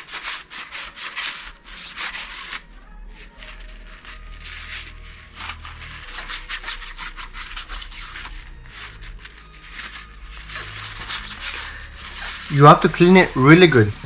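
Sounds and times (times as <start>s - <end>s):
rubbing strokes on metal: 0.0s - 14.0s.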